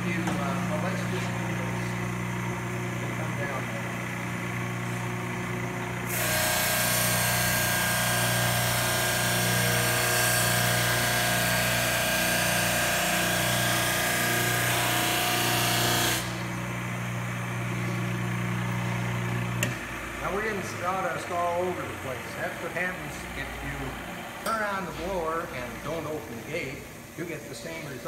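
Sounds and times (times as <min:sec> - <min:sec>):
drum sander motor hum: 0:00.0 - 0:27.2.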